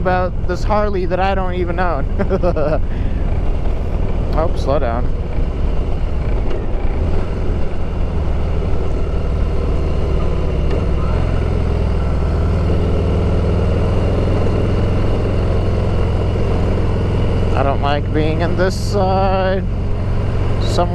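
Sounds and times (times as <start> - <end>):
motorcycle engine running: 0.0 - 20.9
road and wind noise: 0.0 - 20.9.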